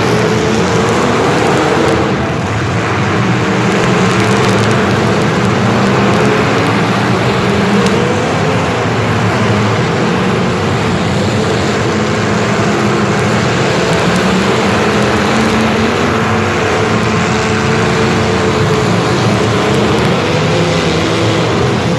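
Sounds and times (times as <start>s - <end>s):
dense noise: 0.0s - 21.9s
engine running: 0.0s - 21.9s.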